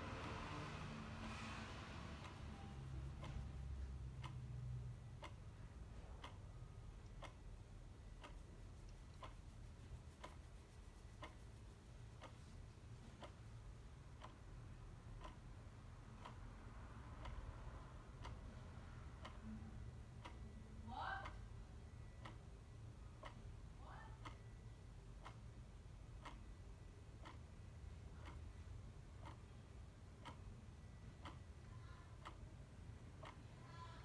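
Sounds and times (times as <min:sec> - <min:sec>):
clock ticking: 0:00.0 - 0:34.0
faint low rumble: 0:00.0 - 0:34.0.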